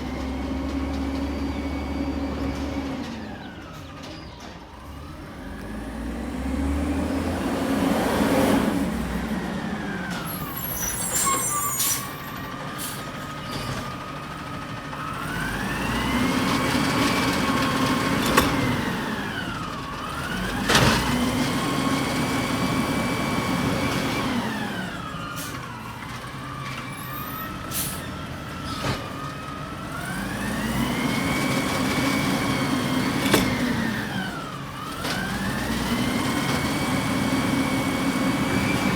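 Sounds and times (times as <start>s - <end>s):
garbage truck engine revving: 4.8s - 38.9s.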